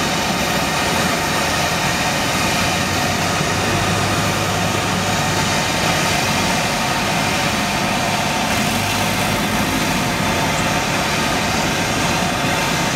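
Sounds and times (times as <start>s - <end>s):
ground vehicle engines: 0.0s - 12.9s.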